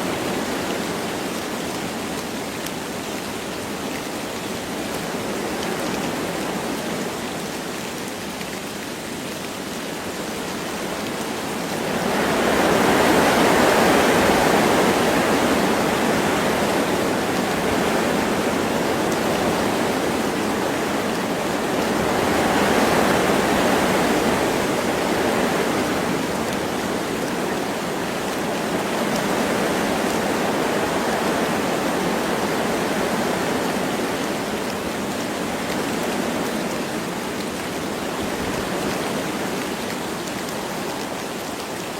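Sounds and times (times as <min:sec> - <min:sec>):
light rain: 0:00.0 - 0:41.9
wind gusting through trees: 0:00.0 - 0:41.9.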